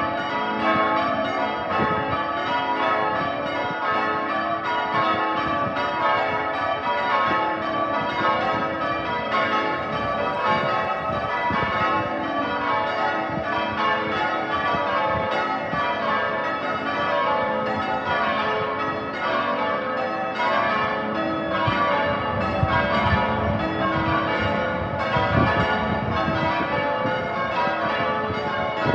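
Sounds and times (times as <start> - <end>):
church bells change ringing: 0.0 - 28.9.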